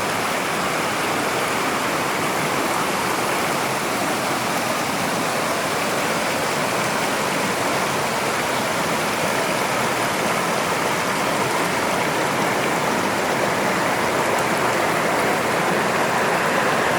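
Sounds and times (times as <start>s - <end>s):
stream rushing over rocks: 0.0s - 16.9s.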